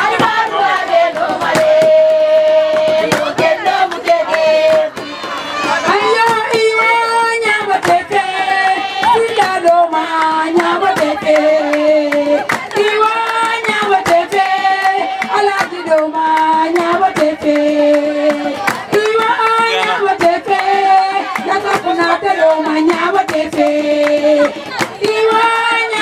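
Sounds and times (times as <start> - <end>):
hand claps: 0.0 - 26.0
women singing a chant: 0.0 - 26.0.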